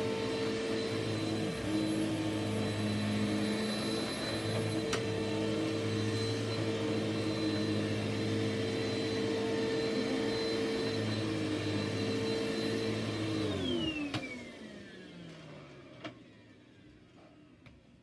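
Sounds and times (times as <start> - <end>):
vacuum motor winding down: 0.0 - 16.8
vacuum cleaner running: 0.0 - 17.6.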